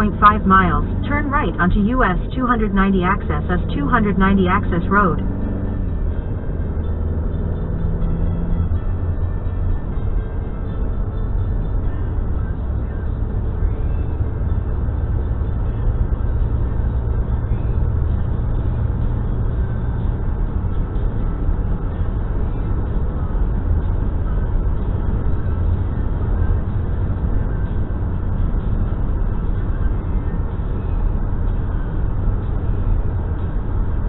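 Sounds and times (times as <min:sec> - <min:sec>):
car cabin road rumble: 0:00.0 - 0:34.0.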